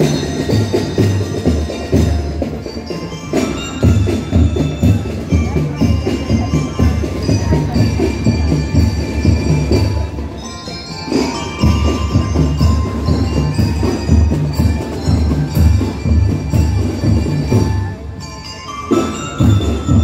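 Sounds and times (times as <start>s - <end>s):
pulsing drum beat: 0.0s - 10.4s, 11.0s - 18.2s, 18.9s - 20.0s
bell lyres playing melody: 0.0s - 20.0s.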